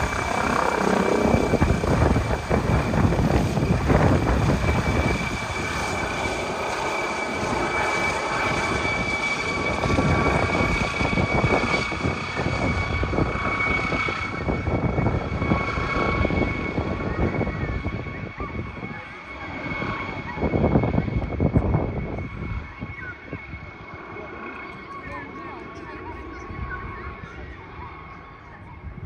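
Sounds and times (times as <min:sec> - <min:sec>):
helicopter engines and rotor: 0:00.0 - 0:29.0.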